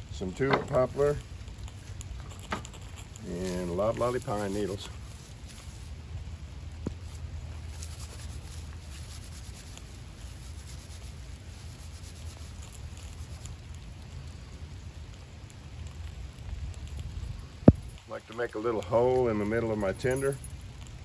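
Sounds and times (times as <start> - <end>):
bark rustling between hands: 0.0 - 21.0.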